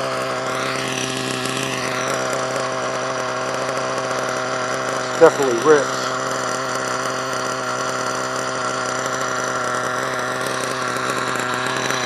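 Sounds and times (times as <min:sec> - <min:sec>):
model engine idling: 0:00.0 - 0:12.0.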